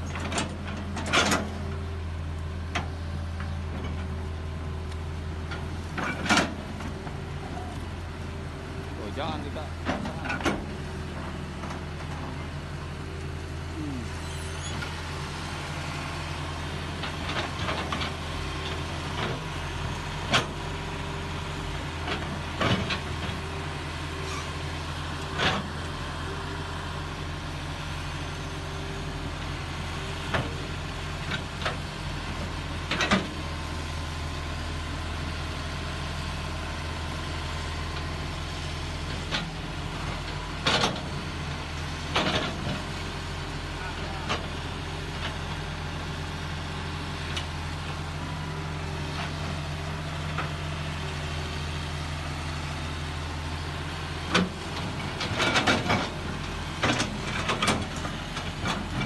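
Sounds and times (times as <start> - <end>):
excavator diesel engines running: 0.0 - 59.0.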